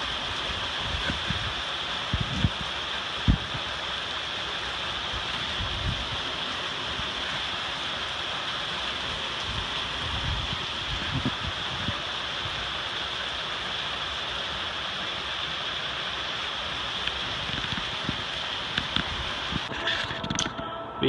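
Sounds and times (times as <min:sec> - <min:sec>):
heavy rain falling: 0:00.0 - 0:20.7.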